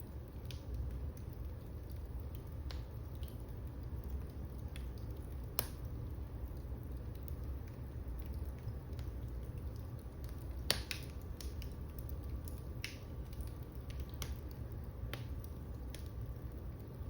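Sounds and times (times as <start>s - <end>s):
fire crackling and popping: 0.0s - 17.0s
low fire rumble: 0.0s - 17.0s.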